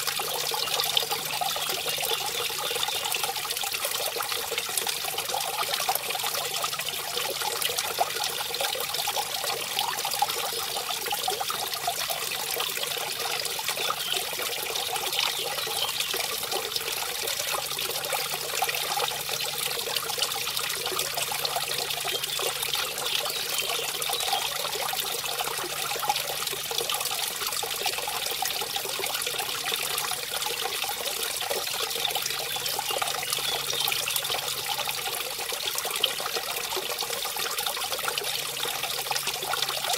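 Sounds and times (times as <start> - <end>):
brook splashing over waterfall: 0.0 - 39.9.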